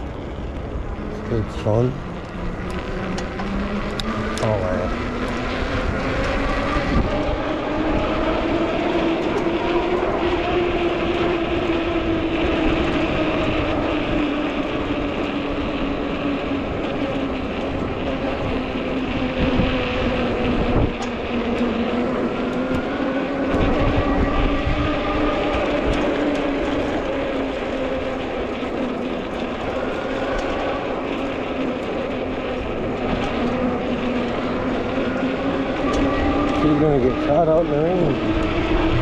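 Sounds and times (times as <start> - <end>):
e-bike drive hum: 0.0 - 39.0
wind rumble on microphone: 0.0 - 39.0.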